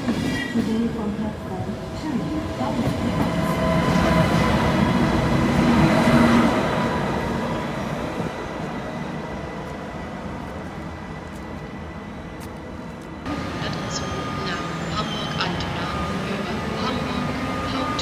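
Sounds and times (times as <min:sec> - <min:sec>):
train running past on tracks: 0:00.0 - 0:18.0.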